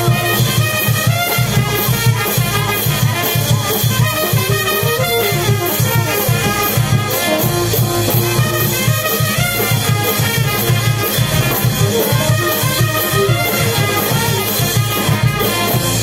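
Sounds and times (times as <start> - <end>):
brass band playing a dance tune: 0.0 - 16.0.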